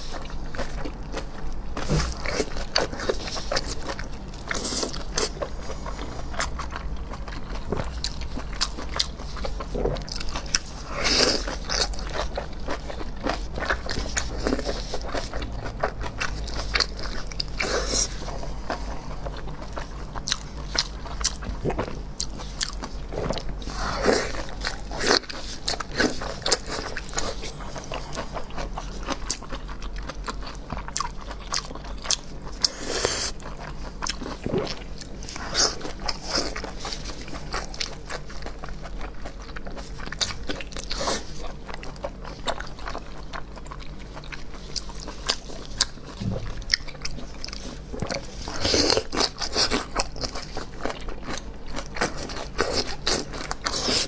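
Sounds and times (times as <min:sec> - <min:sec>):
chewing with wet mouth clicks: 0:00.0 - 0:54.0.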